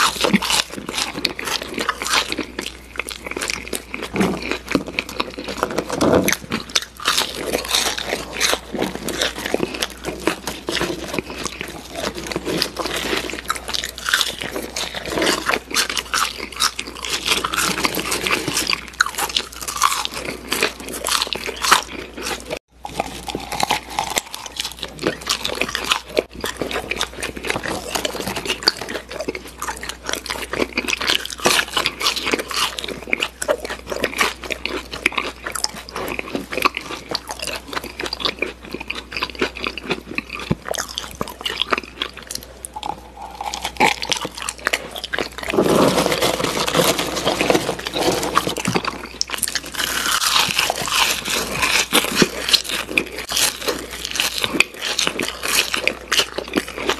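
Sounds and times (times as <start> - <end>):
crunchy chewing of fries: 0.0 - 56.9.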